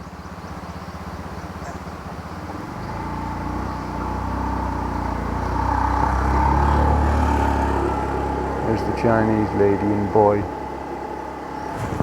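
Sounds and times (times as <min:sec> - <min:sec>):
motorbike engine approaching: 0:00.0 - 0:12.0.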